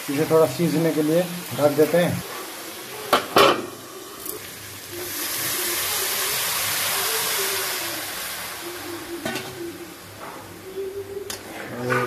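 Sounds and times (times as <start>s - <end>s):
water sizzling in hot pan: 0.0s - 10.6s.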